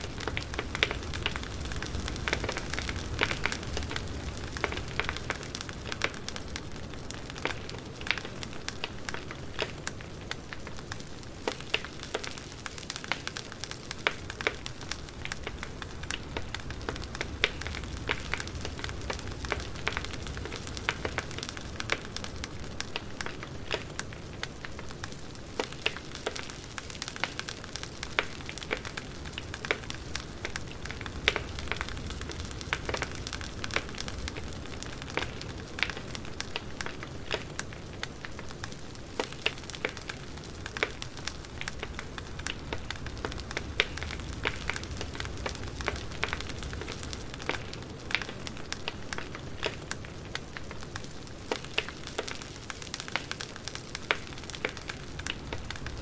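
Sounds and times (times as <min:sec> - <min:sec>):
campfire crackling and popping: 0:00.0 - 0:56.0
fire hiss and rumble: 0:00.0 - 0:56.0.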